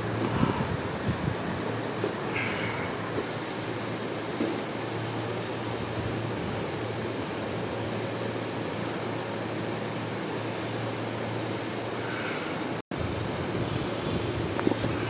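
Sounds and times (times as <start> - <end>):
machine hiss with low hum: 0.0 - 15.0.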